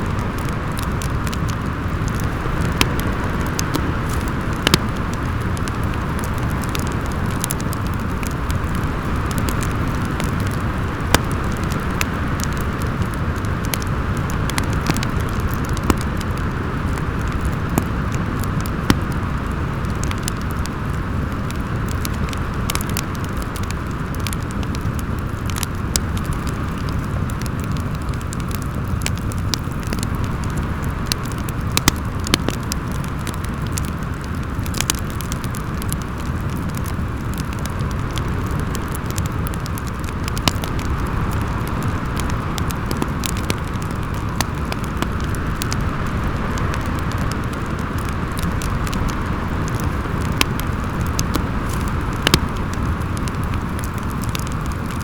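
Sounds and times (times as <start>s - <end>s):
howling wind: 0.0s - 55.0s
wood fire crackling and popping: 0.0s - 55.0s.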